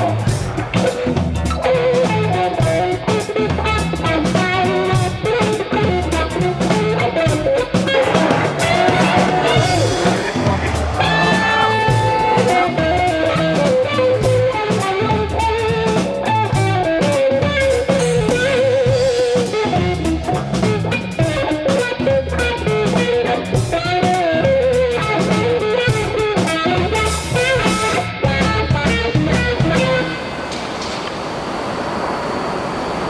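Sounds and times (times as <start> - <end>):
drum kit beat: 0.0 - 30.2
lead guitar melody: 0.0 - 30.8.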